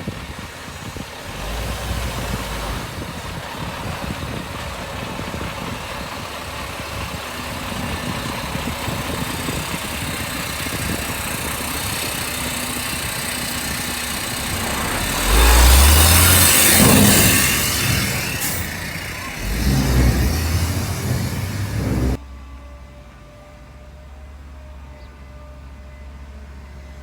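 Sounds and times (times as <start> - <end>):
heavy diesel engine running: 0.0 - 22.2.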